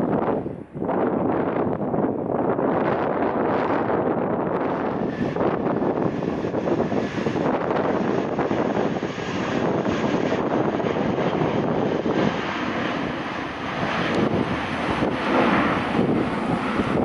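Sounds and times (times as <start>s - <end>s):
jet airliner engines roaring: 0.0s - 17.0s
wind on microphone: 0.0s - 17.0s.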